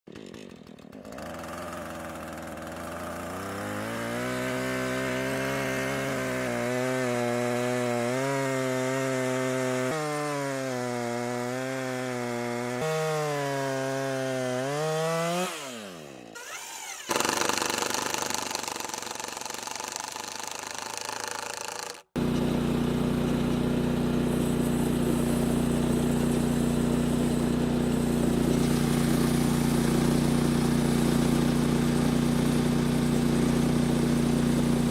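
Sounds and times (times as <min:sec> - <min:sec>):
small gasoline engine revving: 0:00.1 - 0:34.9.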